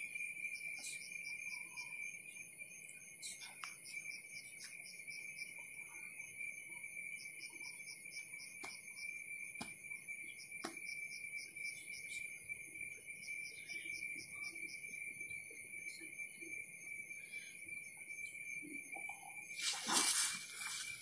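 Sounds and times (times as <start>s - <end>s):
crickets trilling: 0.0s - 21.0s
insect chirping in quick pulses: 0.0s - 21.0s.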